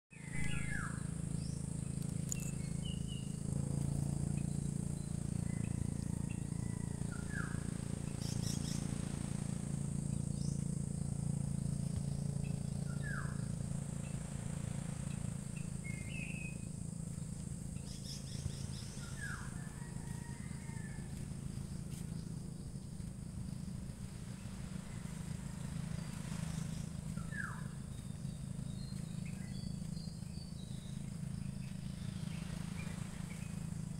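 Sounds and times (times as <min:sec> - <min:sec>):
high-pitched insect drone: 0:00.2 - 0:33.9
low steady hum: 0:00.2 - 0:33.9.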